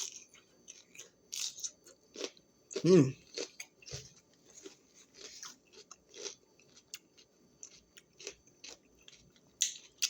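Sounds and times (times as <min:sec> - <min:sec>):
person chewing crunchy snack: 0:00.0 - 0:10.0.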